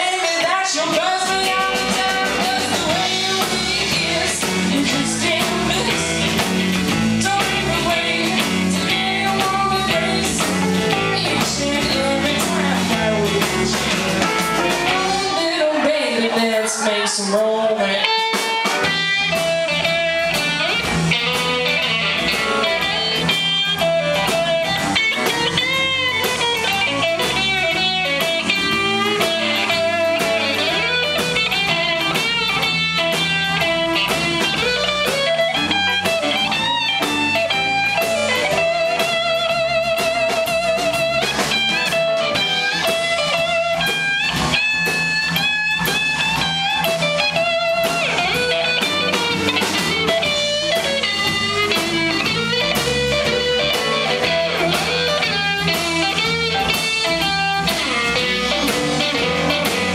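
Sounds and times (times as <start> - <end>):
drums: 0.0 - 59.9
electric bass: 0.0 - 59.9
electric guitar lead with bent notes: 0.0 - 59.9.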